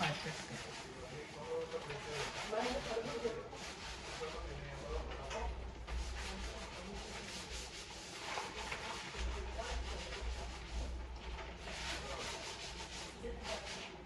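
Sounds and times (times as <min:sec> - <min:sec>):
rubbing and rustling: 0:00.0 - 0:14.0.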